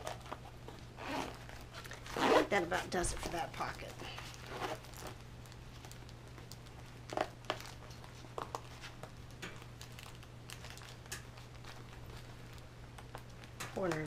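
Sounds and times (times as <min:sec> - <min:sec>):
plastic crinkles and rustles: 0:00.0 - 0:14.0
steady low hum: 0:00.0 - 0:14.0.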